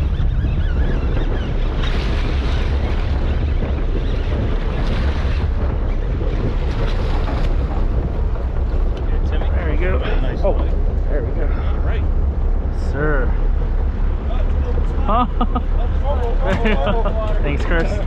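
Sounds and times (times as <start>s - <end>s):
water washing: 0.0s - 18.0s
wind buffeting microphone: 0.0s - 18.0s.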